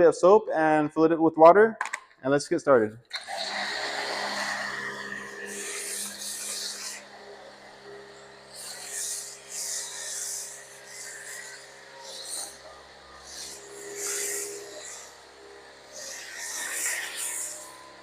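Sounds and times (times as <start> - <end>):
pressure washer spraying: 3.1 - 18.0.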